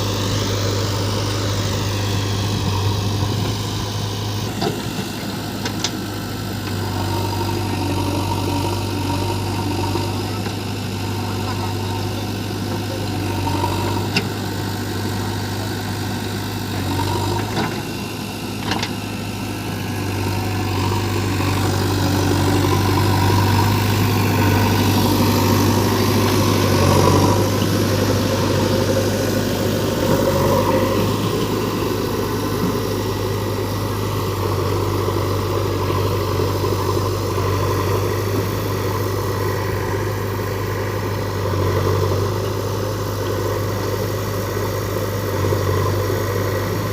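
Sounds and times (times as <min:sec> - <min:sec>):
heavy diesel engine humming: 0:00.0 - 0:46.9.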